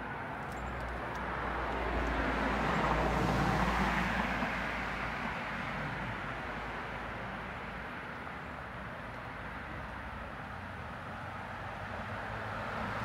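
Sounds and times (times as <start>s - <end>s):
car passing on street: 0.0s - 13.0s.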